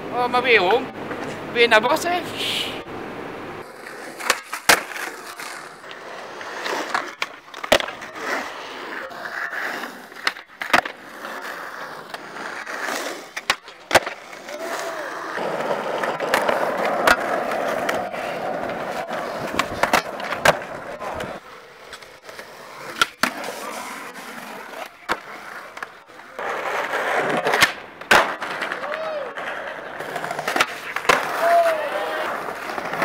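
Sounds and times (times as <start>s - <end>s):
skateboard wheels rolling on concrete: 0.0s - 33.0s
skateboard clacks: 3.6s - 33.0s.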